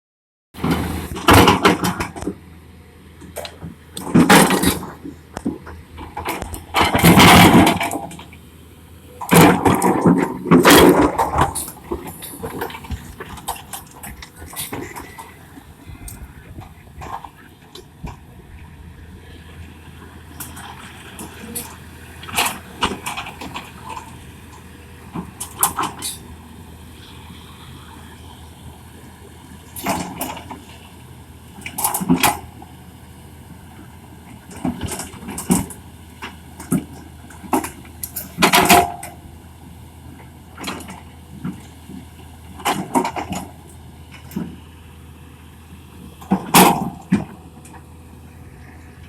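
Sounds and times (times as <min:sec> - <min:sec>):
excavator diesel engine running: 0:00.6 - 0:49.0.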